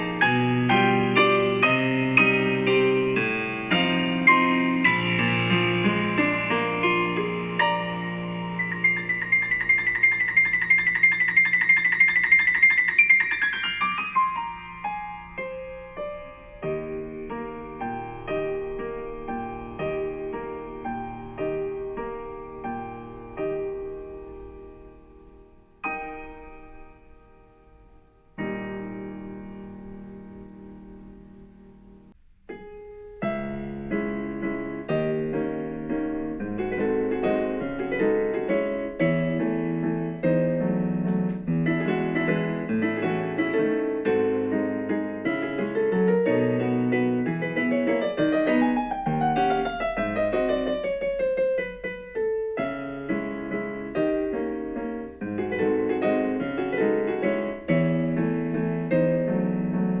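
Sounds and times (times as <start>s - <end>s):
piano music: 0.0s - 60.0s.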